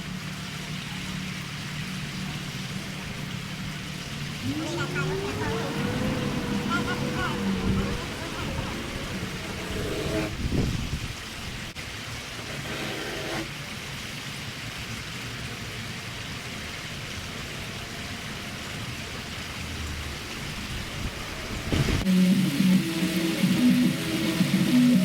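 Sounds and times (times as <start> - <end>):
rushing hissing water: 0.0 - 25.0.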